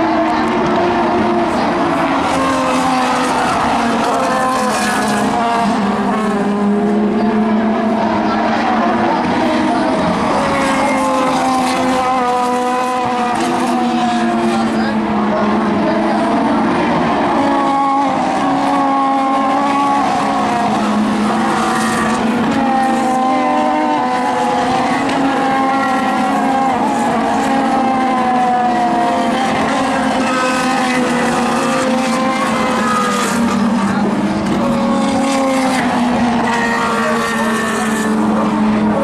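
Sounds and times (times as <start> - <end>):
racing car engines: 0.0 - 39.0.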